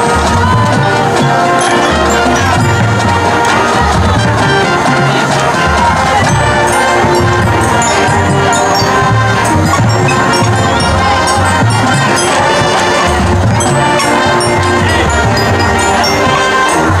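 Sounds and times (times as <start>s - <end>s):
drum strokes: 0.0s - 17.0s
marching band playing: 0.0s - 17.0s.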